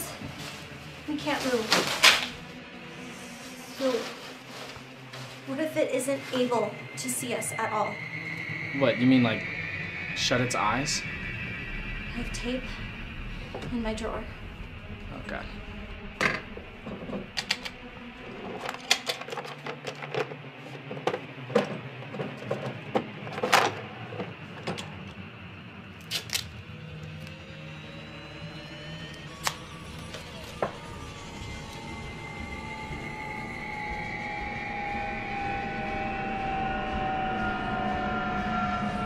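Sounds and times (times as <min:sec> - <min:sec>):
film score music: 0:00.0 - 0:39.0.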